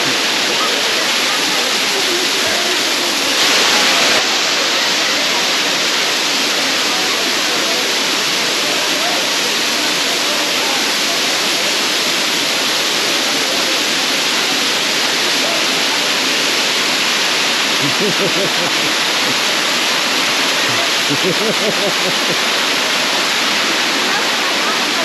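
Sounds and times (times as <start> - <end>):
faint voices: 0.0 - 25.0
waterfall rushing: 0.0 - 25.0.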